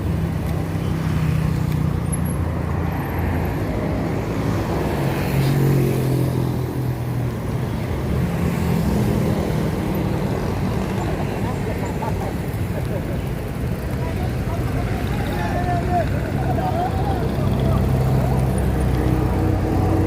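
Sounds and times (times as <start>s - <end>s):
steady road noise: 0.0s - 20.0s
vehicle engine hum: 0.0s - 20.0s.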